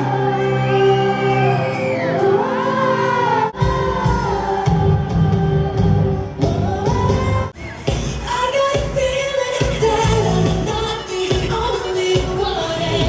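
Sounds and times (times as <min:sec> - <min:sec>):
live pop band: 0:00.0 - 0:13.0
woman singing into microphone: 0:00.0 - 0:13.0.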